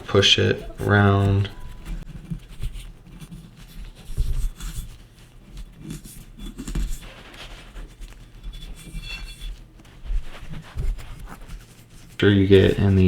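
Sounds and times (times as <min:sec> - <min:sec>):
cotton swab scraping inside metal: 0:00.0 - 0:13.0
handling noise: 0:00.0 - 0:13.0.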